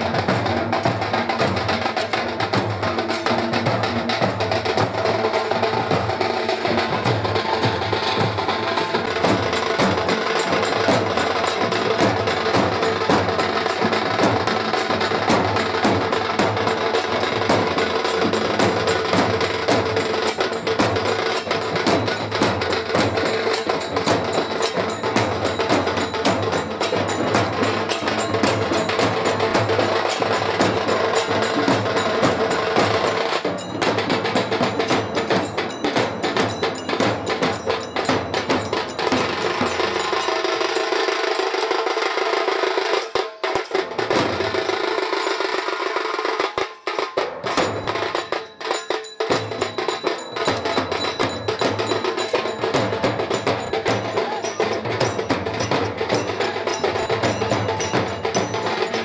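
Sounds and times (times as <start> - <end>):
deep barrel drum beats: 0.0 - 59.0.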